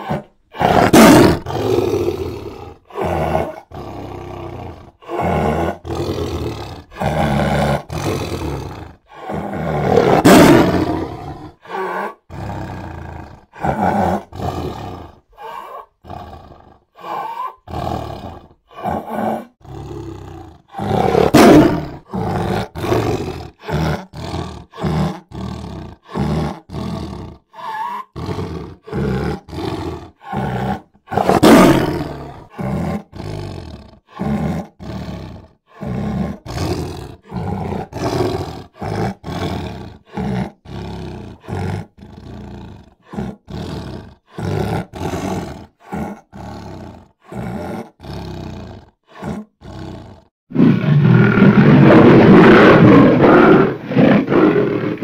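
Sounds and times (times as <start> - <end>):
big cat roaring and growling: 0.0 - 55.0.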